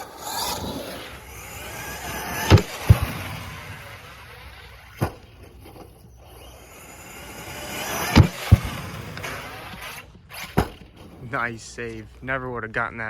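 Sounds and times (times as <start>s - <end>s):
toy truck landing bangs: 0.0s - 11.2s
toy truck motor and tyres: 0.0s - 13.0s.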